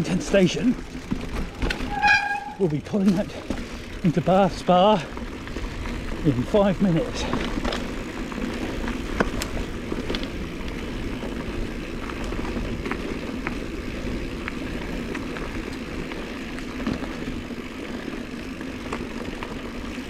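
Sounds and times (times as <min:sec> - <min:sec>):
bike clicks and rattles: 0:00.0 - 0:20.0
bike tyres rumbling on dirt: 0:00.0 - 0:20.0.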